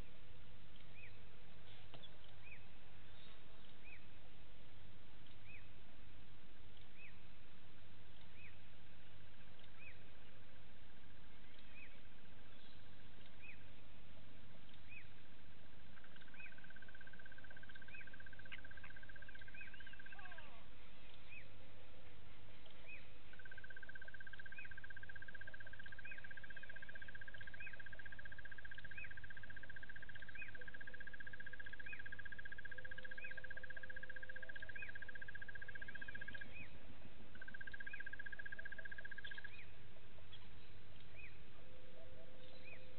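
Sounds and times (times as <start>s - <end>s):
bird chirping: 0.0s - 4.3s, 5.1s - 5.8s, 8.0s - 42.9s.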